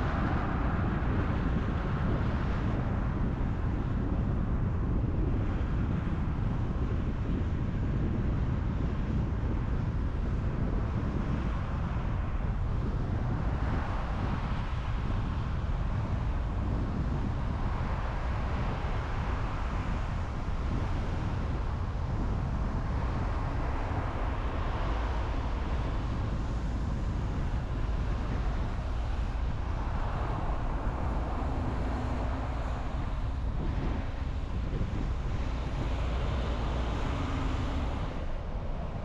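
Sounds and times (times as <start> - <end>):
car road and tyre noise: 0.0 - 39.0.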